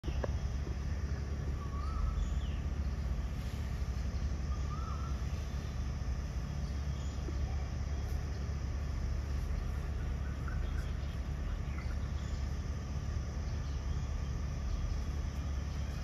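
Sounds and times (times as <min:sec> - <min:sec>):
faint bird calls: 0:00.0 - 0:16.0
low outdoor rumble: 0:00.0 - 0:16.0.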